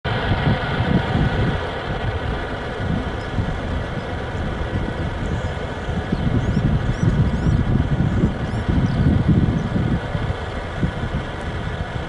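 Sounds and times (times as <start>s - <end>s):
turboprop engines droning: 0.0s - 12.0s
low uneven rumble: 0.1s - 12.0s.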